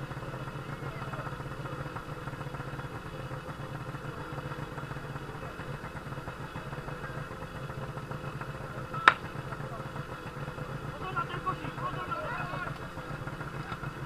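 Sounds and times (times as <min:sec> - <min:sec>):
pump engine idling: 0:00.0 - 0:14.0.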